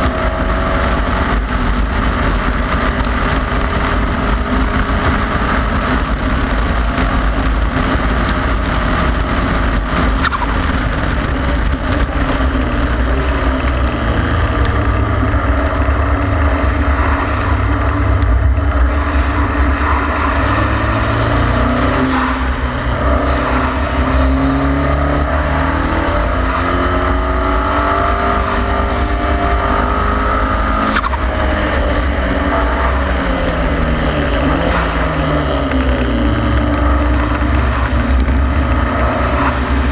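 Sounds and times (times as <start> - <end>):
car engine revving: 0.0 - 39.9
wind rumble: 0.0 - 39.9.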